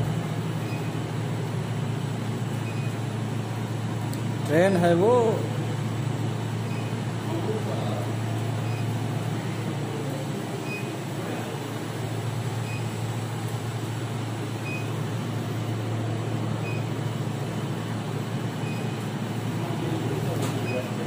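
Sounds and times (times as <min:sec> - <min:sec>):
heavy machinery engine drone: 0:00.0 - 0:21.0.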